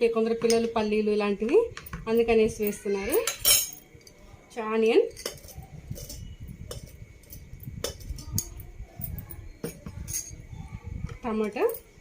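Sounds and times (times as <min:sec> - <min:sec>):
utensils clinking against dishes: 0:01.8 - 0:04.3, 0:04.9 - 0:12.0.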